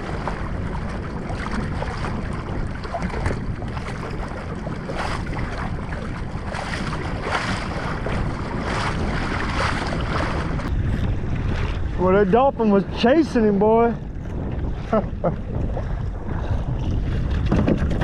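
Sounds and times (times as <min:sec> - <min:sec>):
water lapping: 0:00.0 - 0:18.0
wind buffeting microphone: 0:00.0 - 0:18.0.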